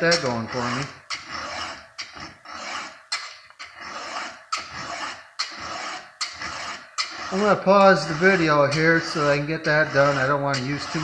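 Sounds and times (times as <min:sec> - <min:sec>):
file rasping on saw chain: 0:00.0 - 0:11.0.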